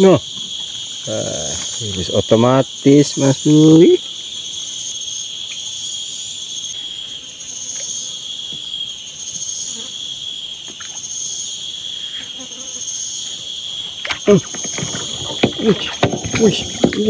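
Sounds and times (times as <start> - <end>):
shrill insect chorus: 0.0 - 17.0.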